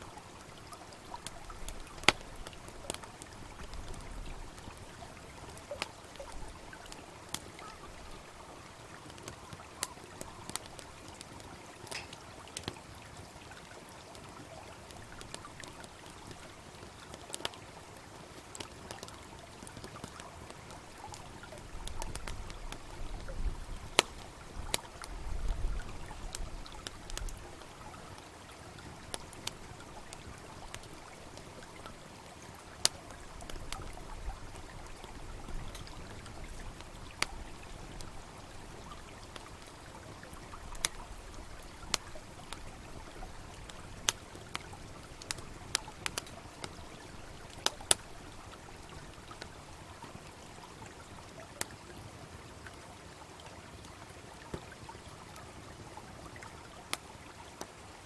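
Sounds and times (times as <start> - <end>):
campfire crackling and popping: 0.0 - 57.9
babbling stream: 0.0 - 58.0.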